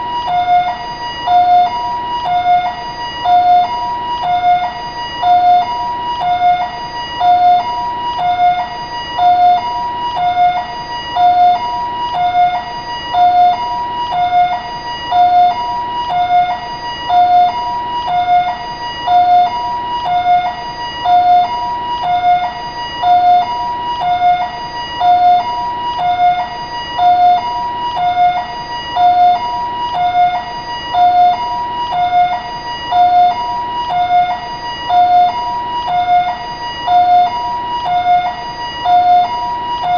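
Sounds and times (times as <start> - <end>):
two-tone ambulance siren wailing: 0.0 - 39.9.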